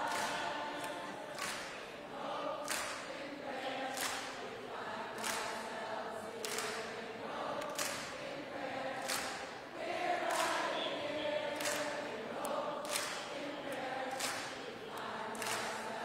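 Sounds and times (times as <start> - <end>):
crowd singing in unison: 0.0 - 16.0.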